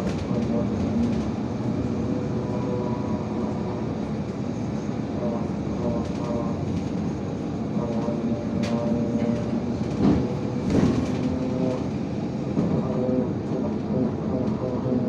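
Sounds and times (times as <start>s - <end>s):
bus engine running: 0.0s - 15.0s
bus knocking and rattling: 0.0s - 15.0s.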